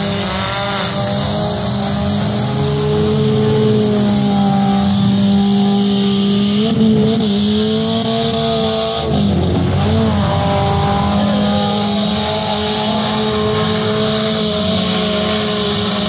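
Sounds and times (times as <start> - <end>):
car engines revving high: 0.0 - 16.0.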